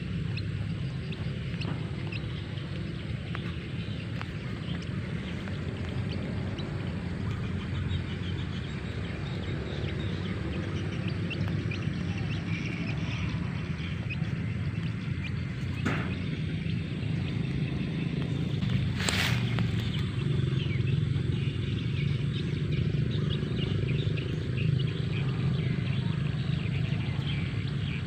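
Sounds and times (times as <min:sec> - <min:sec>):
chicks peeping: 0:00.0 - 0:28.0
low rumble: 0:00.0 - 0:28.0.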